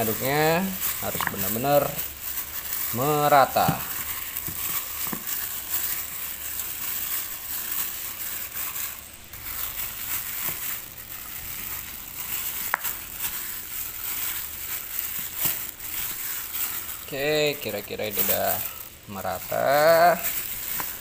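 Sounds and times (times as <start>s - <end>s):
plastic bag crinkling and squishing: 0.0s - 21.0s.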